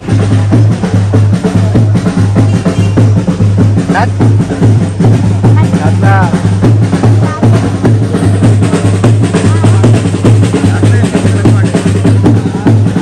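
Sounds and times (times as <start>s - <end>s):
loud drumming: 0.0s - 13.0s.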